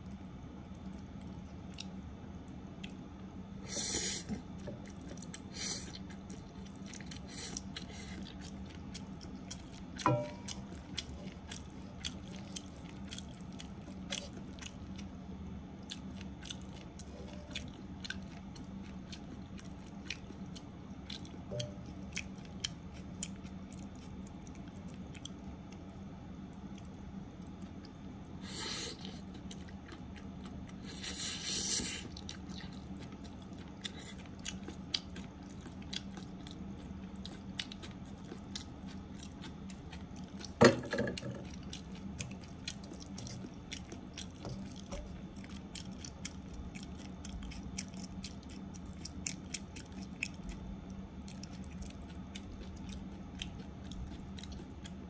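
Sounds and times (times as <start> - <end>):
close chewing with wet clicks: 0.0 - 3.6, 4.2 - 31.1, 32.0 - 40.6, 41.2 - 55.0.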